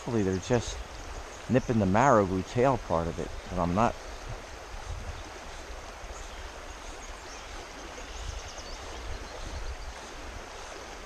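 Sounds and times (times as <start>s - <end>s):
fast creek rushing: 0.0s - 11.0s.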